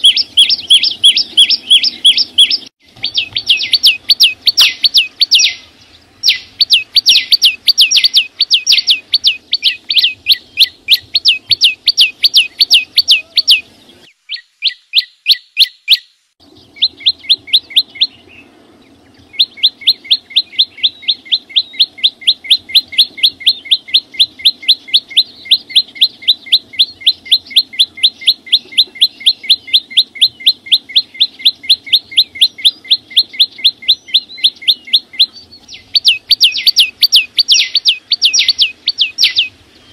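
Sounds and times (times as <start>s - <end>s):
songbird singing sharp repeated notes: 0.0s - 39.9s.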